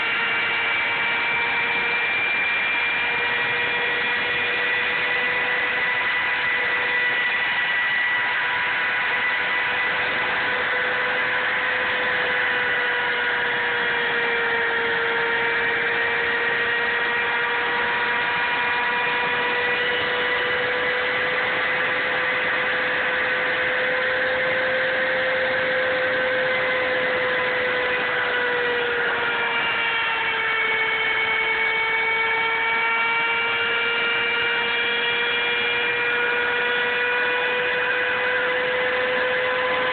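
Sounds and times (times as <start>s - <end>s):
router spindle motor whining: 0.0s - 39.9s.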